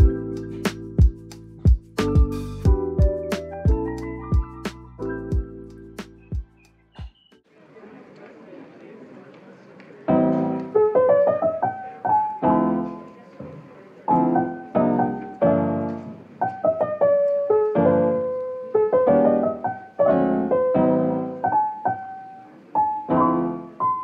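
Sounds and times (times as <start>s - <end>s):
piano tune: 0.0s - 7.4s, 10.1s - 24.0s.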